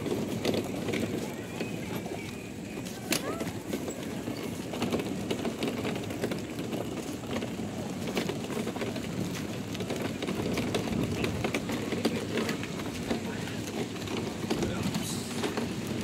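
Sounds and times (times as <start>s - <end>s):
wagon wheels rumbling on asphalt: 0.0s - 16.0s.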